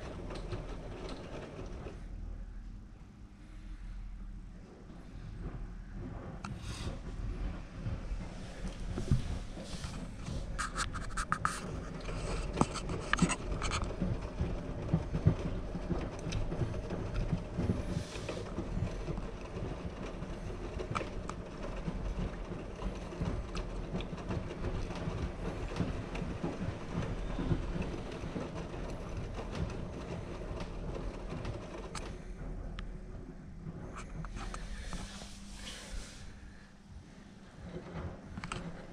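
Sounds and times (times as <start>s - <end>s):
washing machine motor hum: 0.0s - 38.9s.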